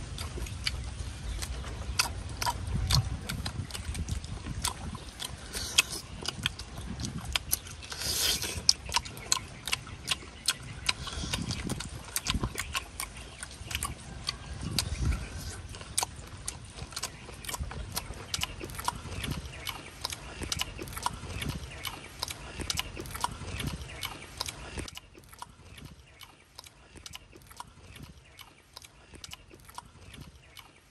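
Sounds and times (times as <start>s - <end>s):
wet chewing and lip-smacking: 0.0s - 30.9s.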